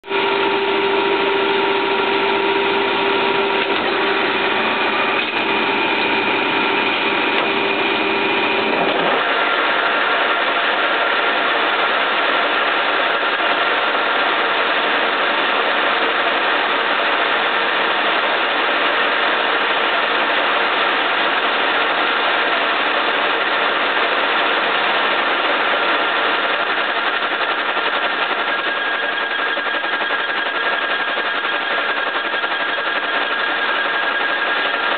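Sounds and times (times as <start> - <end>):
lathe cutting metal with whine: 0.0 - 34.9.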